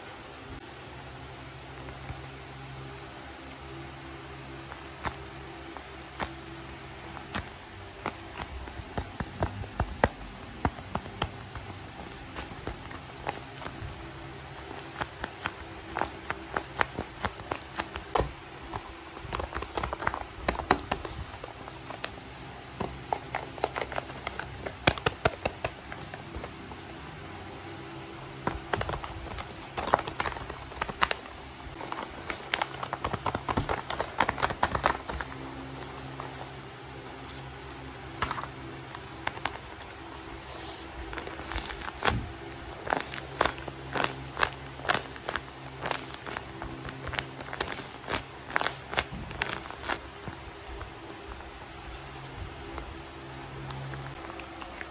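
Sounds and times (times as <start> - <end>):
paper squishies crinkling: 4.4 - 54.9.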